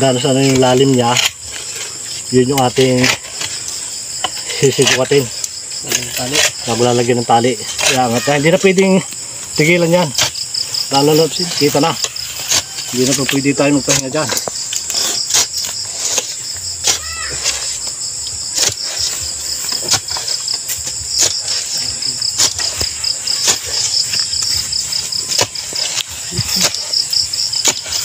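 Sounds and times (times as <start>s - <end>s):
crickets trilling: 0.0s - 28.0s
digging bar scraping soil: 0.0s - 28.0s.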